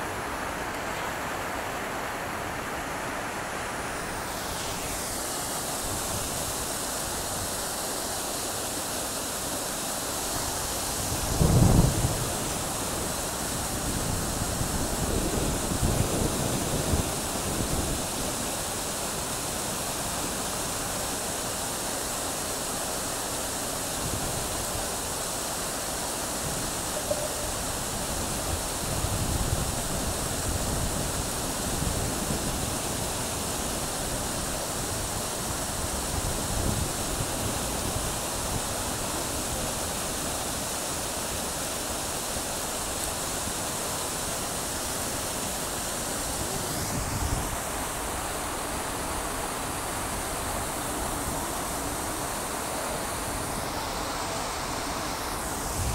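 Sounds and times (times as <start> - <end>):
fountain water splashing: 0.0 - 55.9.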